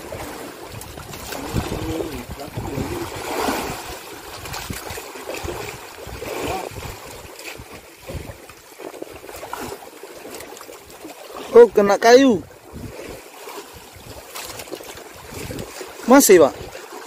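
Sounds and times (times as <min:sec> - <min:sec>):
sea water splashing against poles: 0:00.0 - 0:17.0.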